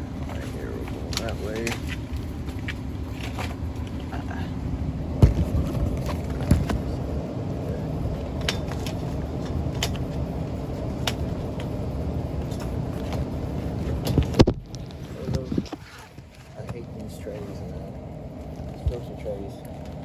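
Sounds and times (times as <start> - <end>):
low mechanical rumble: 0.0 - 20.0.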